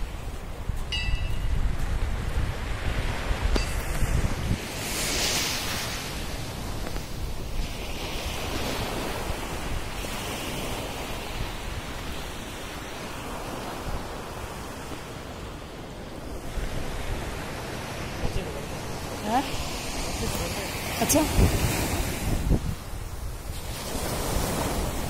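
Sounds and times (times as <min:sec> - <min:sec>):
sea waves breaking on shore: 0:00.0 - 0:25.0
wind buffeting microphone: 0:00.0 - 0:25.0.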